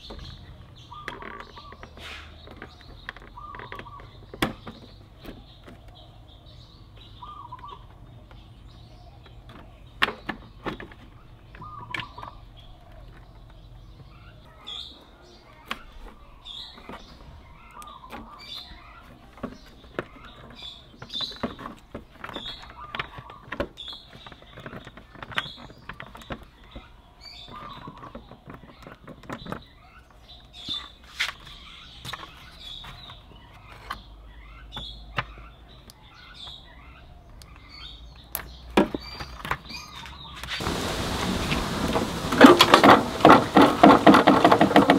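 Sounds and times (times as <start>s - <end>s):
small bird chirping: 0.0s - 42.4s.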